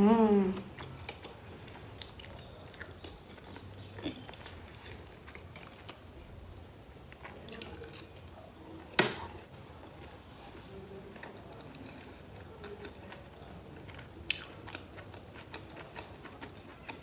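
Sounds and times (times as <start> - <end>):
chewing food: 0.6 - 6.3, 7.1 - 17.0.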